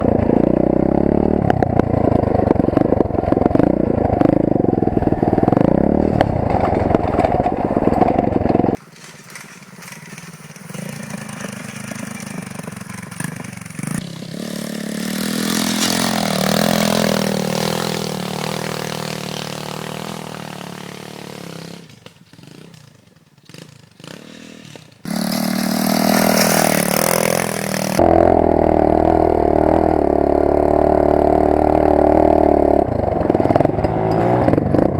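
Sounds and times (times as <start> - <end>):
motorbike engine revving: 0.0 - 8.8, 9.8 - 34.9.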